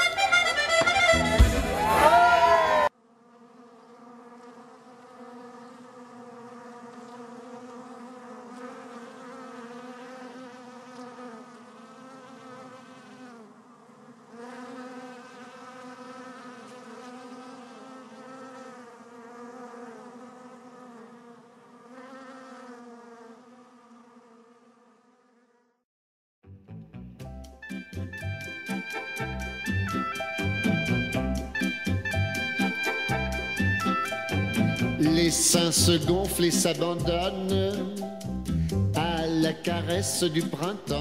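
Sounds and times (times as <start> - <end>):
bee buzzing: 0.0 - 1.6, 2.7 - 25.8, 27.4 - 41.0.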